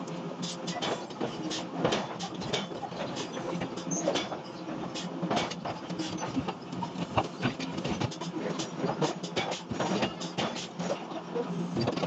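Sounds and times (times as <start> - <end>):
machinery clicks and knocks: 0.4 - 11.1, 11.8 - 12.0.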